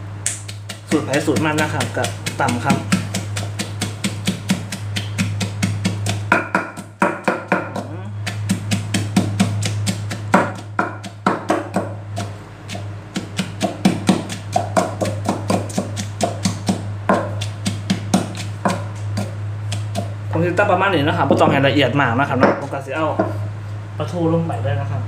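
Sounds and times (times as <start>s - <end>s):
steady low hum: 0.0s - 25.0s
pestle pounding in clay mortar: 0.3s - 23.5s.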